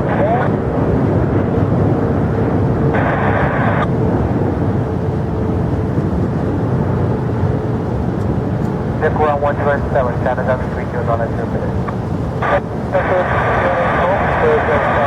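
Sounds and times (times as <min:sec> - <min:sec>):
jet engines rumbling: 0:00.0 - 0:15.0
faint steady hum: 0:02.4 - 0:15.0.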